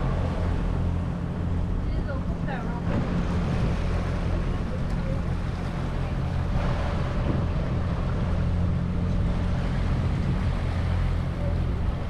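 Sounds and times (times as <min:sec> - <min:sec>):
boat engine humming: 0:00.0 - 0:12.0
water noise: 0:00.0 - 0:12.0
wind: 0:00.0 - 0:12.0.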